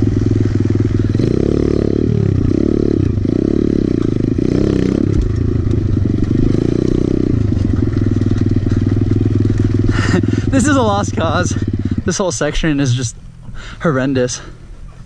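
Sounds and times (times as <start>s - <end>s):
motorbike engine revving: 0.0s - 14.4s.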